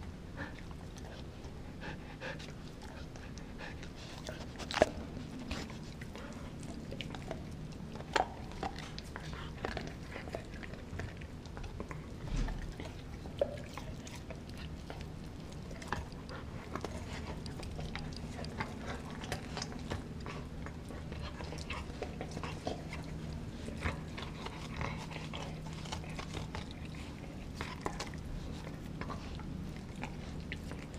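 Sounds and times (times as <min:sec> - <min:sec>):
dog chewing frozen bone: 0:00.0 - 0:30.9
teeth cracking and clicking: 0:06.0 - 0:30.9.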